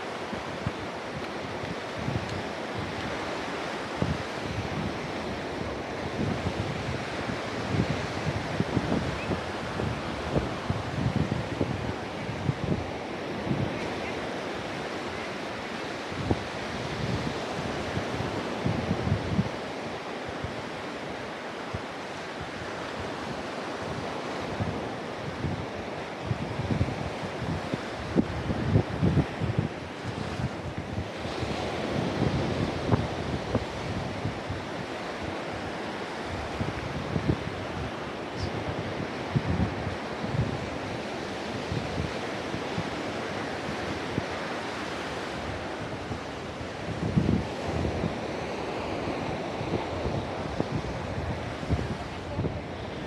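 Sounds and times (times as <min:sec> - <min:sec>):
sea surf washing onto beach: 0:00.0 - 0:53.0
wind buffeting microphone: 0:00.0 - 0:53.0.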